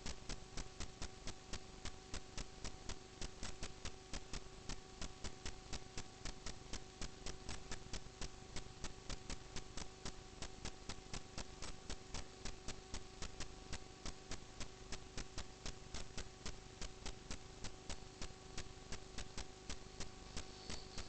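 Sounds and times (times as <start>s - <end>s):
constant hum: 0.0s - 21.0s
steady ticking: 0.0s - 21.0s.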